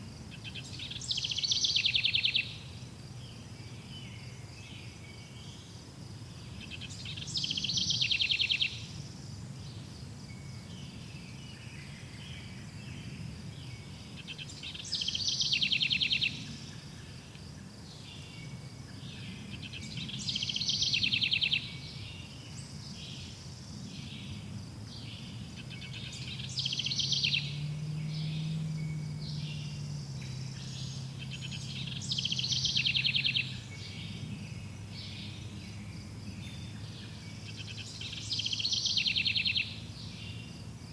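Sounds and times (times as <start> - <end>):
faint bird or insect chirps: 0.0 - 40.9
songbird singing with trill: 0.0 - 40.9.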